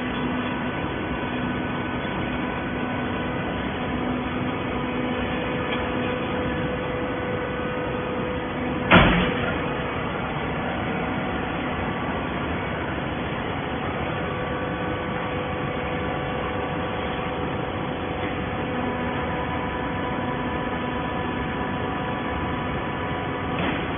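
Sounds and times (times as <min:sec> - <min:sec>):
baling press machine hum: 0:00.0 - 0:23.9.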